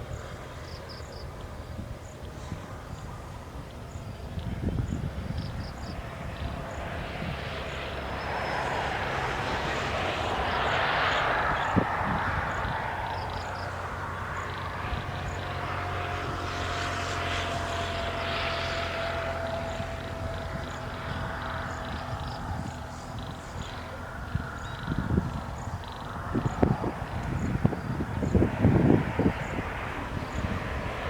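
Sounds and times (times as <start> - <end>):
distant engine drone: 0.0 - 31.0.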